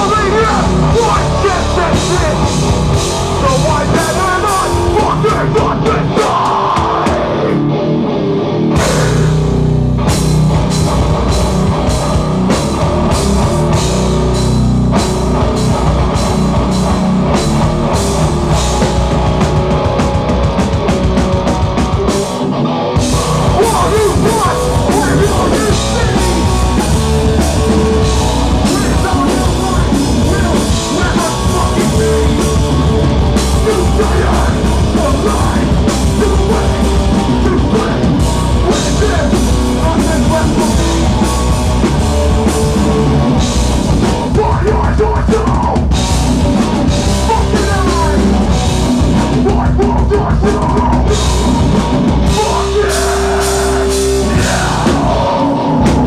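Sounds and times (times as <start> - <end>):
bass guitar: 0.0 - 56.0
distorted electric guitars: 0.0 - 56.0.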